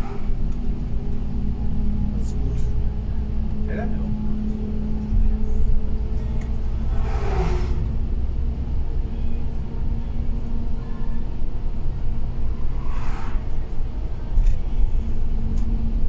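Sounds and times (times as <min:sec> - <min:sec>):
bus engine drone inside cabin: 0:00.0 - 0:16.0
passing bus whoosh: 0:00.0 - 0:16.0.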